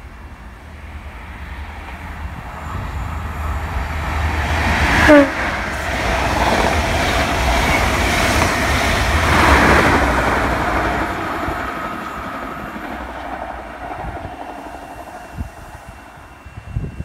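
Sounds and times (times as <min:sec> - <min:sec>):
diesel locomotive passing: 0:00.0 - 0:17.0
train wheels rolling on rails: 0:00.0 - 0:17.0.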